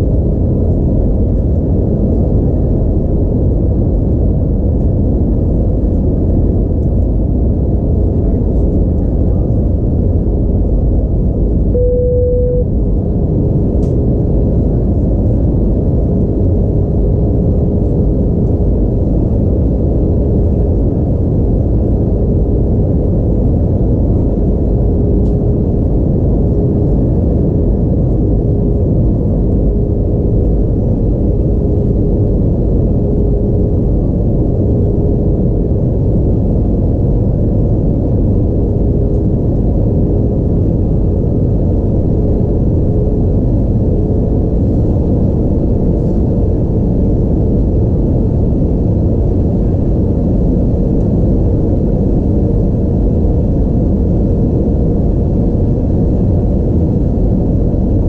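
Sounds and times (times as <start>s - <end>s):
airplane cabin airflow and jet engines: 0.0s - 58.0s
faint constant hum: 0.0s - 58.0s.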